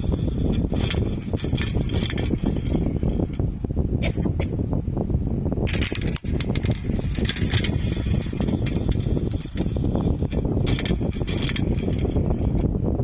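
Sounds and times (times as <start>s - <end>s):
marbles clicking and clattering: 0.0s - 3.5s, 5.7s - 12.7s
marbles rolling on a track: 0.0s - 3.5s, 5.7s - 12.7s.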